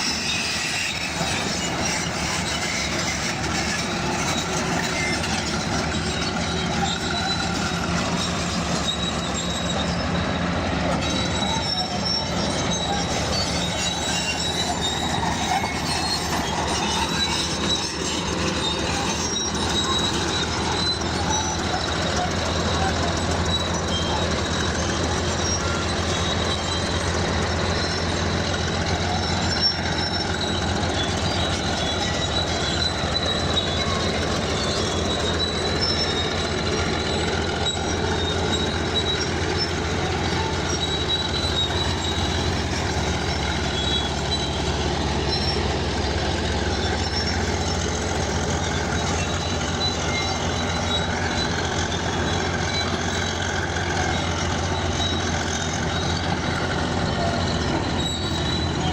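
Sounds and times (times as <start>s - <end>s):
diesel engine under load: 0.0s - 58.9s
steel tracks squeaking: 0.0s - 58.9s.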